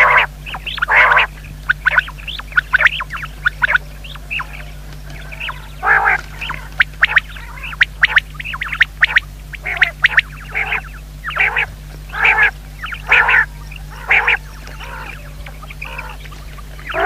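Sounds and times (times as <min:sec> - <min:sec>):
faint low hum: 0:00.0 - 0:17.0
quails calling: 0:00.0 - 0:17.0.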